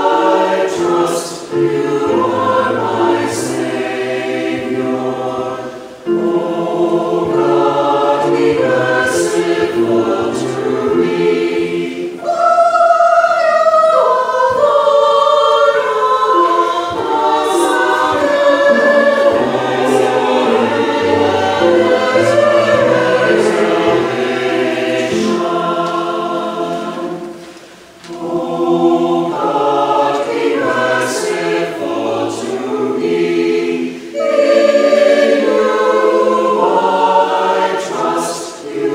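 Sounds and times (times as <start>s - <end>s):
mixed choir singing: 0.0s - 38.9s.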